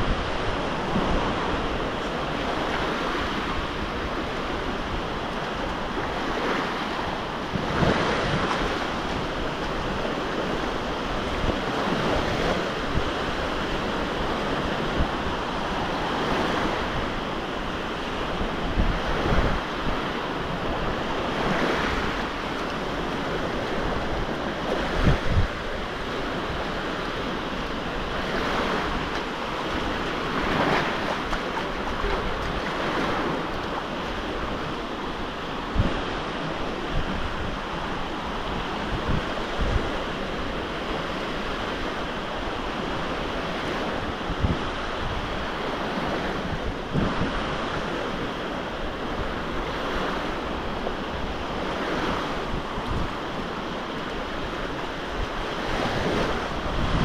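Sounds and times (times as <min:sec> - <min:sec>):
waves breaking on beach: 0:00.0 - 0:57.0
wind rumbling on microphone: 0:00.0 - 0:57.0.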